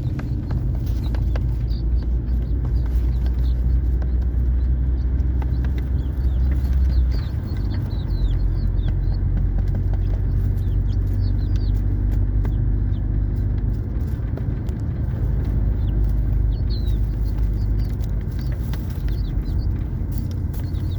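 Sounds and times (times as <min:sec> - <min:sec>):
chicks peeping: 0:00.0 - 0:20.9
vehicle running low rumble: 0:00.0 - 0:20.9.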